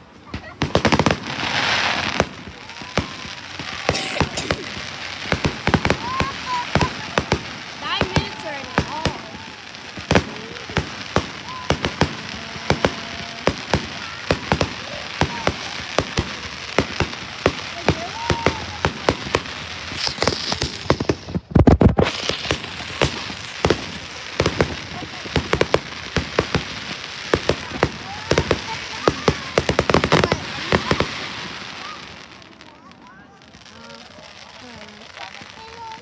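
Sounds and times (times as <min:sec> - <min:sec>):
fireworks popping and banging: 0:00.0 - 0:36.0.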